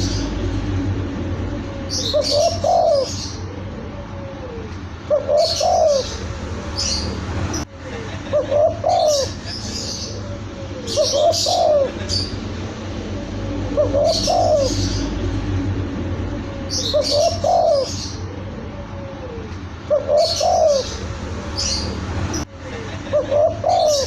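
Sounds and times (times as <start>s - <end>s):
dove cooing: 0.0s - 7.2s, 8.3s - 21.9s, 23.1s - 24.0s.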